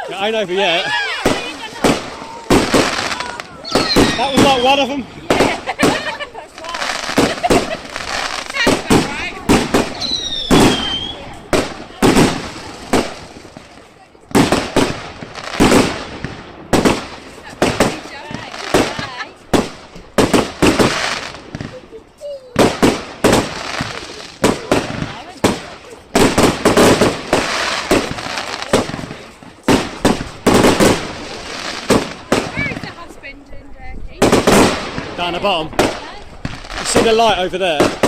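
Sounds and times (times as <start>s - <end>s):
fireworks banging: 0.0s - 38.0s.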